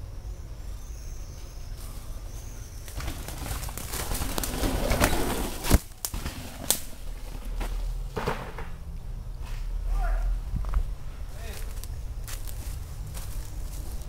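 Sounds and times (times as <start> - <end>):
tyre and wind noise: 1.2 - 14.0.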